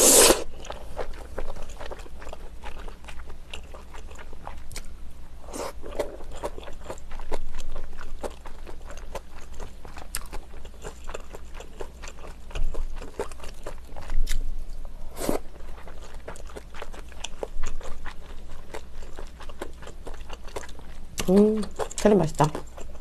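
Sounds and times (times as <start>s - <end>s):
chewing with wet mouth smacks: 0.5s - 4.9s, 5.8s - 14.4s, 15.5s - 23.0s.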